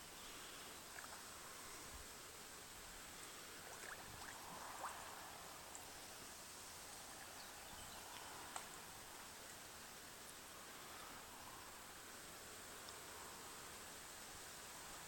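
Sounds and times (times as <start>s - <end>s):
faint outdoor background hiss: 0.0s - 15.0s.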